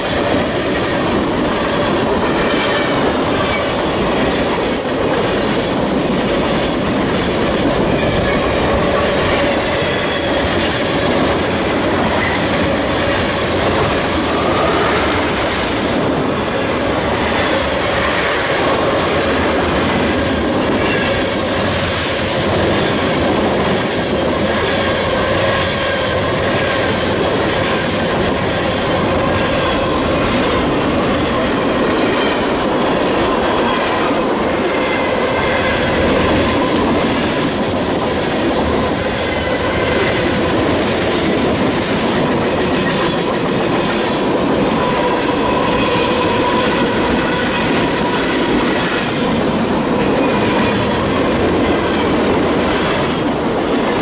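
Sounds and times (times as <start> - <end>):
train wheels rumbling over rails: 0.0 - 54.0.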